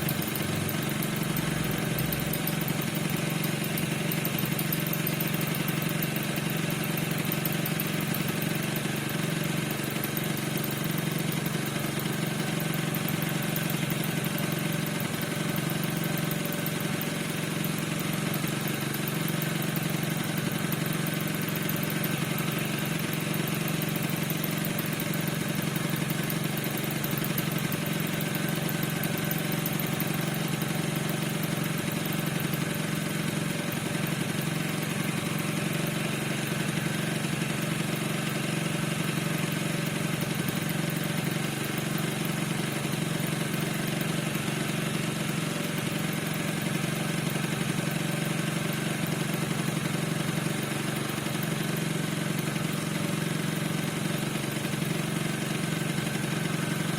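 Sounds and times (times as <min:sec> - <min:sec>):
scooter engine idling: 0:00.0 - 0:56.9.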